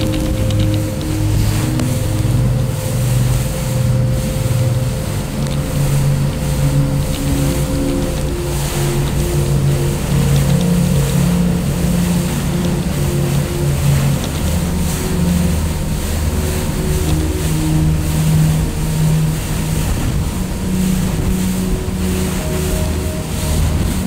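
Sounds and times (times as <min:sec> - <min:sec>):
boat engine running: 0:00.0 - 0:24.0
slow ambient music: 0:00.0 - 0:24.0
water wash: 0:00.0 - 0:24.0.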